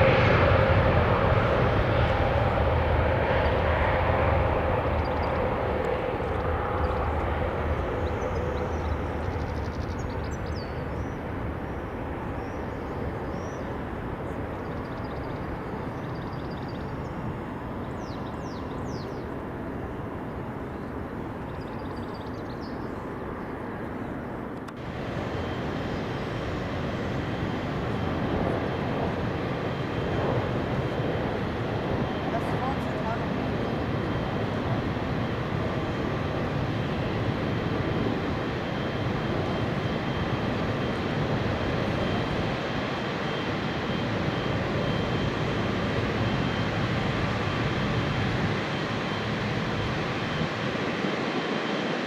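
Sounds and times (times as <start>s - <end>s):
jet engines taking off: 0.0s - 52.0s.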